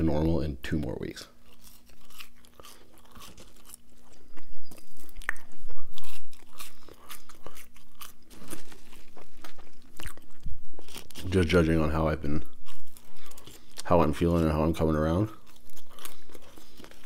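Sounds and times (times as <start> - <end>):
wet chewing crunches: 0.7 - 17.0.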